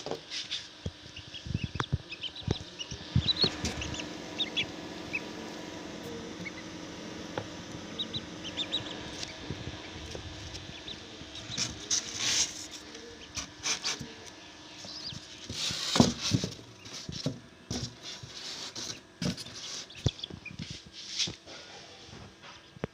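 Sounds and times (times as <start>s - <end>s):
steady low hum: 0.0s - 22.9s
chicks cheeping: 0.3s - 21.3s.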